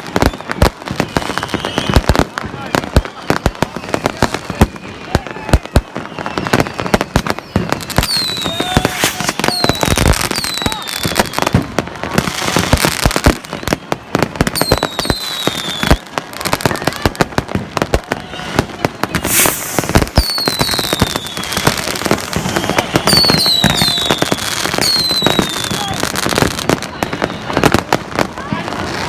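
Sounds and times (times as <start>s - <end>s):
falling fireworks whistles: 0.0s - 29.0s
fireworks bangs and crackling: 0.0s - 29.0s.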